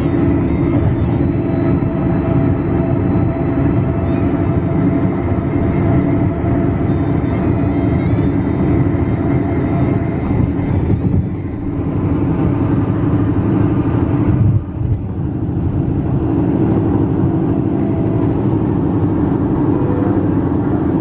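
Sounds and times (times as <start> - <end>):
loud vehicle rumble: 0.0 - 21.0.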